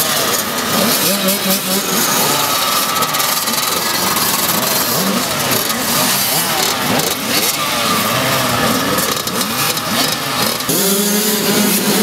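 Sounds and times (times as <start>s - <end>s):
dirt bikes idling and revving: 0.0s - 12.0s.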